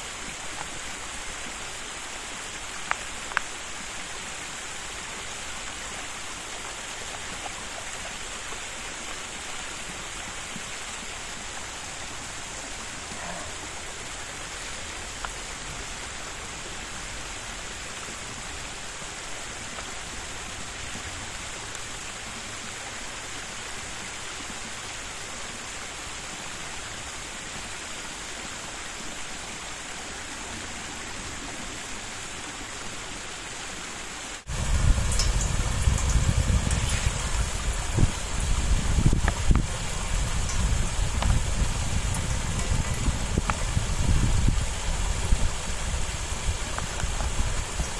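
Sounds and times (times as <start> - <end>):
brook flowing: 0.0 - 47.9.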